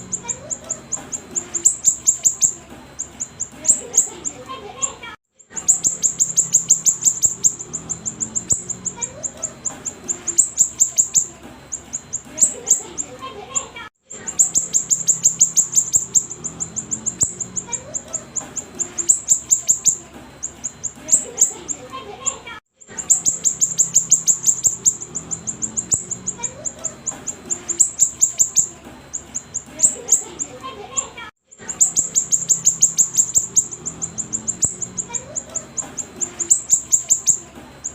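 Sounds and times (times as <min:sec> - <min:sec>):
bird singing high chirps: 0:00.0 - 0:21.8, 0:22.9 - 0:37.9.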